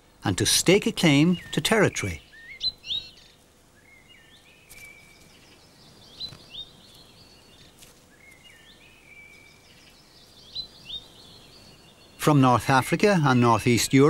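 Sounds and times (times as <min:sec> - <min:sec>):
faint steady hiss: 0:00.0 - 0:14.0
songbird singing: 0:00.0 - 0:14.0.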